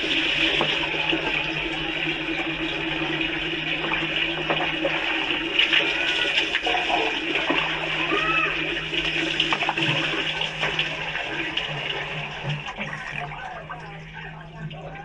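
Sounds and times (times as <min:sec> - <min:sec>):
steady rush of water: 0:00.0 - 0:15.0.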